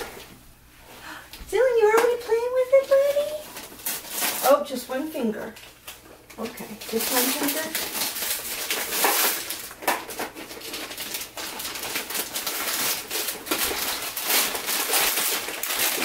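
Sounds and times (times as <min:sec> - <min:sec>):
wrapping paper rustling: 0:01.8 - 0:16.0.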